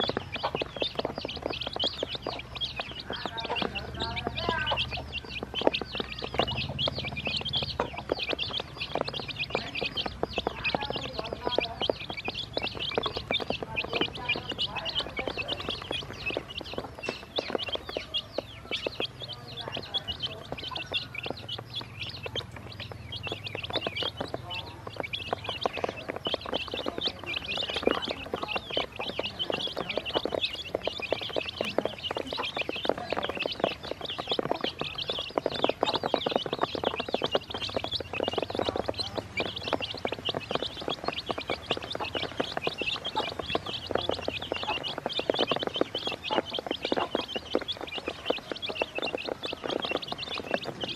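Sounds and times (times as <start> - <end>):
baby chicks peeping: 0.0 - 50.9
beaks pecking plastic basin: 0.0 - 50.9.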